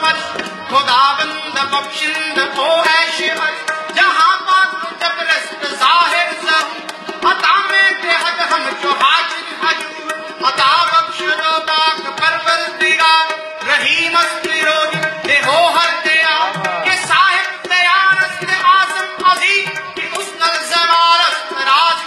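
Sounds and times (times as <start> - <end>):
harmonium melody: 0.0 - 22.0
tabla: 0.0 - 22.0.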